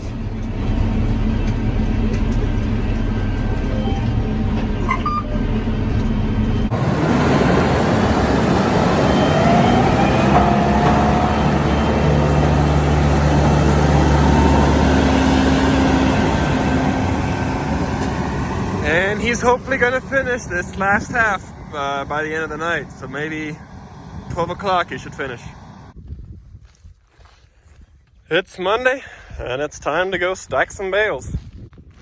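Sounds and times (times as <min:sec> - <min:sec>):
farm machinery engine humming: 0:00.0 - 0:26.0.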